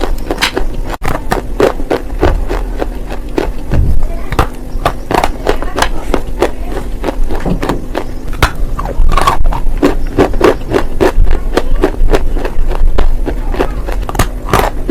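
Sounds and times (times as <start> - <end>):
crisp biting and chewing: 0.0 - 14.9.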